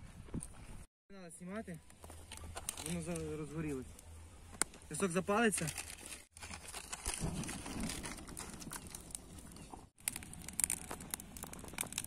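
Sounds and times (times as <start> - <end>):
bonfire crackling: 1.9 - 12.0.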